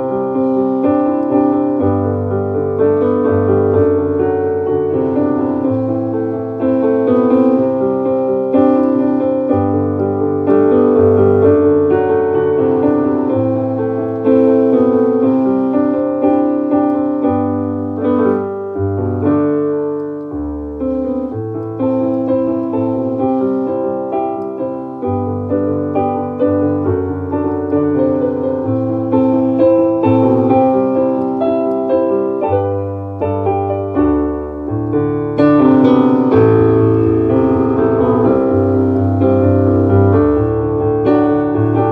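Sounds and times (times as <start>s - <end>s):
instrumental piano music: 0.0s - 41.9s.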